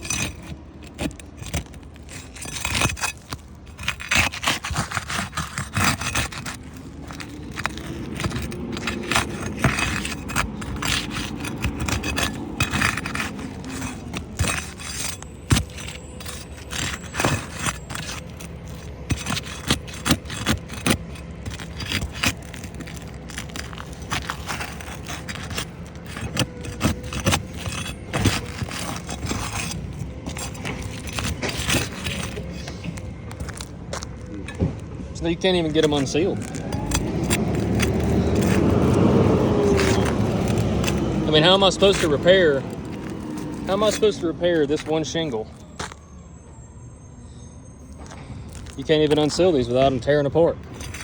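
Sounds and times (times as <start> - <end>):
metal bar scraping shingles: 0.0 - 46.0, 48.0 - 51.0
shingles tearing and crumbling: 0.0 - 46.1, 47.9 - 51.0.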